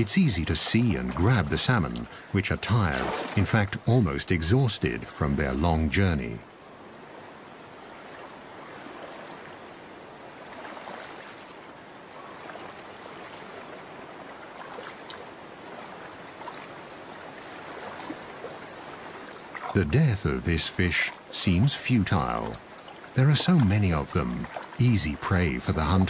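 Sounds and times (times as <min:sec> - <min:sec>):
small water splashes: 0:00.0 - 0:04.0, 0:06.8 - 0:26.0
stream water burbling: 0:00.0 - 0:26.0.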